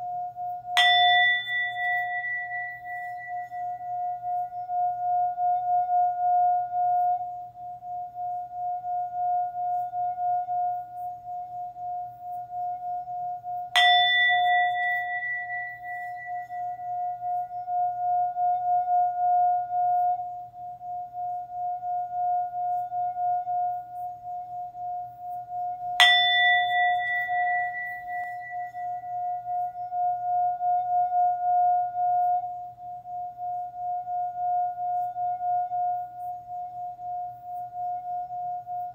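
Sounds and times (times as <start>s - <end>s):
singing bowl ringing: 0.0s - 38.9s.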